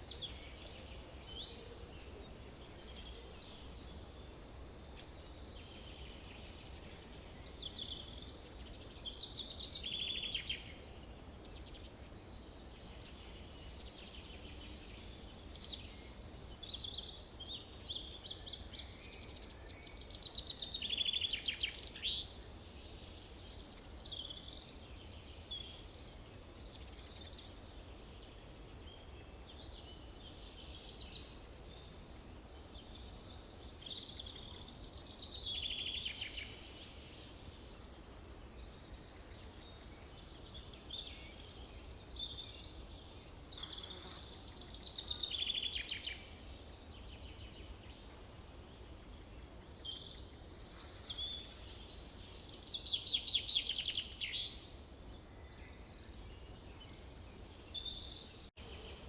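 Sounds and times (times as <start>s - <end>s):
songbirds singing trills: 0.0s - 59.0s.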